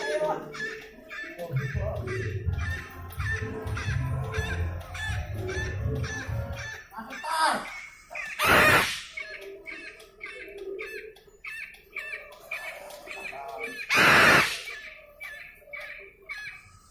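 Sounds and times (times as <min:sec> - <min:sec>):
cockatoo screeching: 0:00.0 - 0:16.9
short chirping calls: 0:00.0 - 0:16.9.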